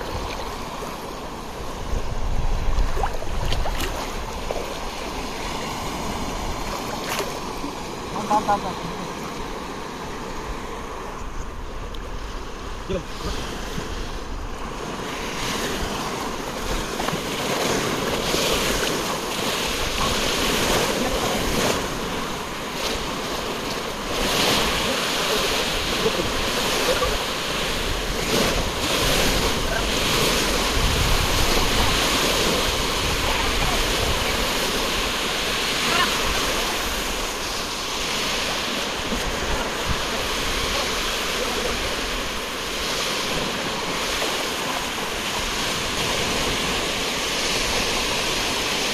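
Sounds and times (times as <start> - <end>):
wind buffeting microphone: 0.0 - 8.1, 9.4 - 44.3
surf breaking on beach: 0.0 - 48.9.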